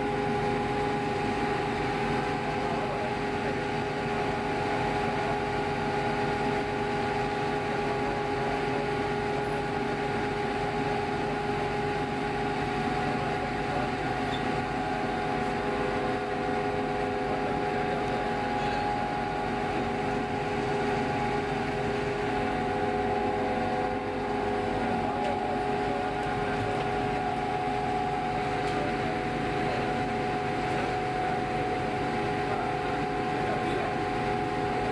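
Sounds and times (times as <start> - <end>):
ferry engines droning: 0.0 - 34.9.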